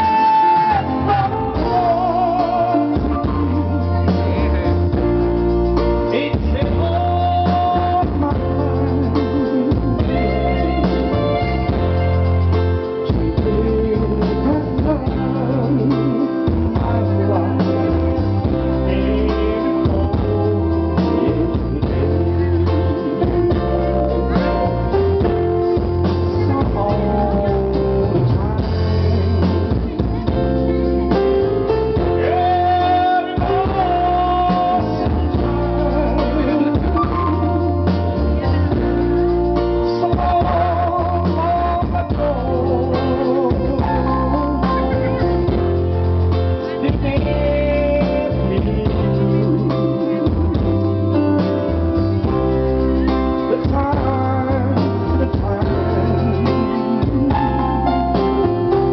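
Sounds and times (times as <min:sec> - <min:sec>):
live band playing: 0:00.0 - 0:58.9
man singing: 0:00.0 - 0:58.9.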